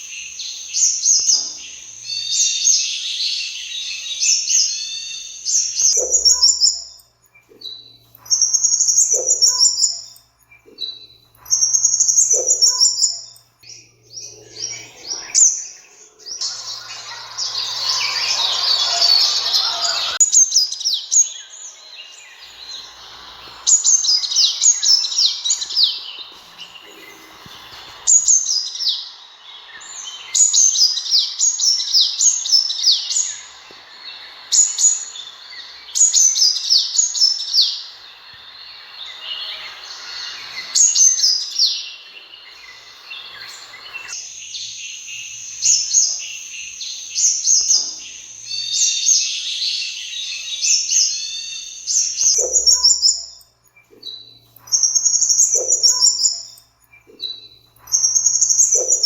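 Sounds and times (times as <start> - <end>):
background hiss: 0.0 - 59.0
bird song with high trills: 0.0 - 59.0.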